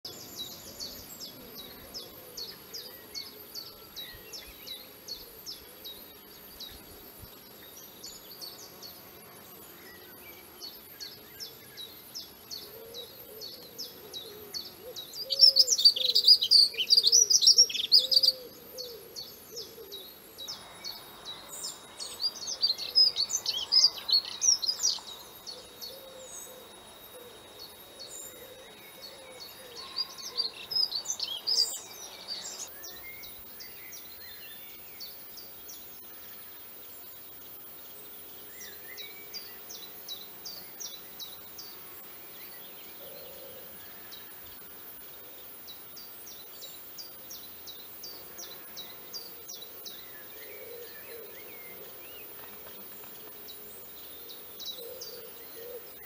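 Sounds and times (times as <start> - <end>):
birds chirping: 0.0 - 56.0
dense birdsong bursts: 0.0 - 56.0.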